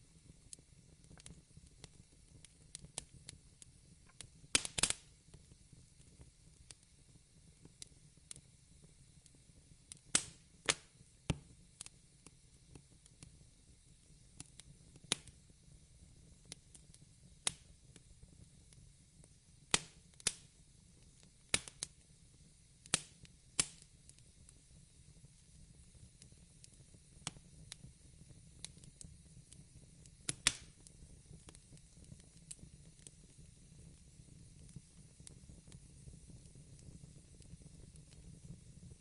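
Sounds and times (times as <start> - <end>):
fire crackling: 0.0 - 39.0.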